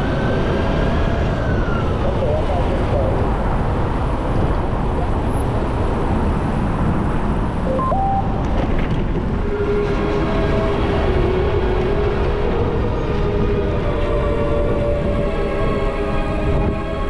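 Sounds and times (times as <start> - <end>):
wind rumbling on microphone: 0.0 - 7.7, 8.3 - 17.0
city traffic: 0.0 - 16.7.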